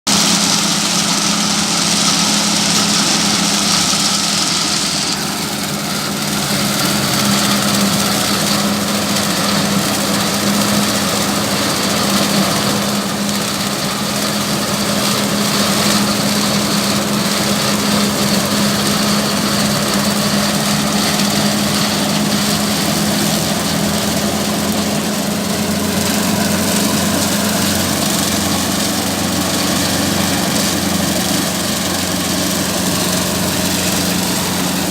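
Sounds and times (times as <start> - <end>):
machine engine humming: 0.0 - 34.9.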